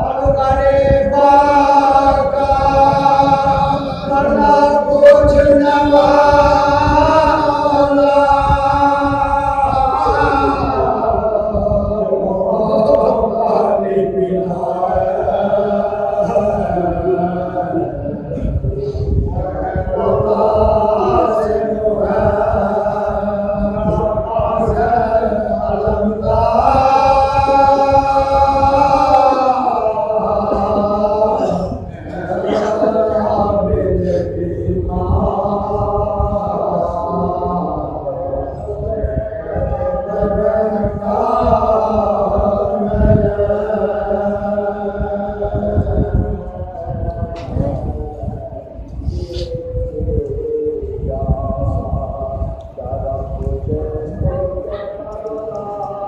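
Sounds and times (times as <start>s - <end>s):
men chanting through a microphone: 0.0s - 56.0s.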